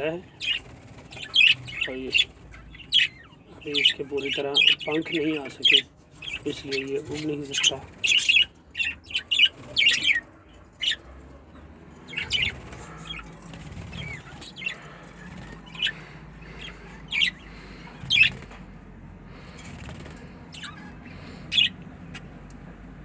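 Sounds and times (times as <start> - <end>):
budgerigars chirping: 0.0 - 22.4.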